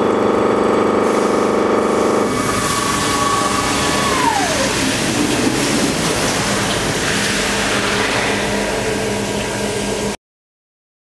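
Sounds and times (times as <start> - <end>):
high whine: 0.0 - 10.2
low machine hum: 0.0 - 10.2
coolant spraying hiss: 1.0 - 10.2.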